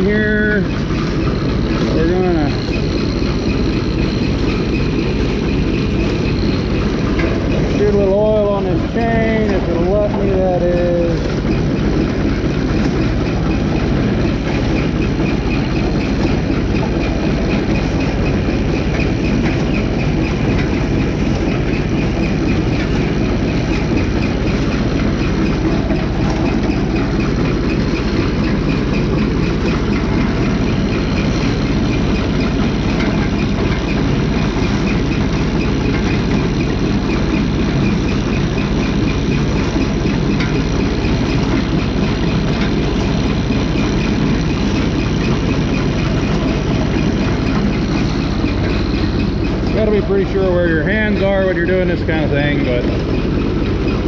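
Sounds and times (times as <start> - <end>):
drive chain clatter: 0.0 - 54.0
tractor engine idling: 0.0 - 54.0.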